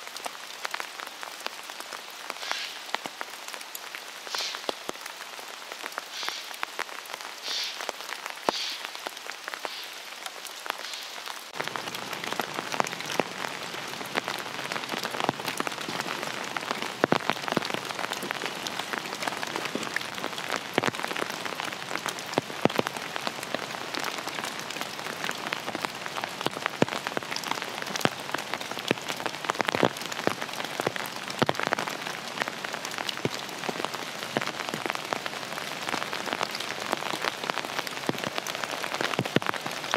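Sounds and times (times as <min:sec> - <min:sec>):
rain on fabric umbrella: 0:00.0 - 0:39.9.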